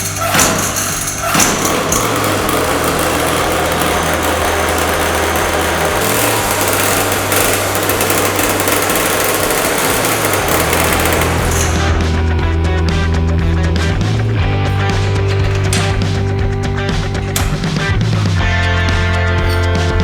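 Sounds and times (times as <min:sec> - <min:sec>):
minibike engine buzzing: 0:00.0 - 0:20.0.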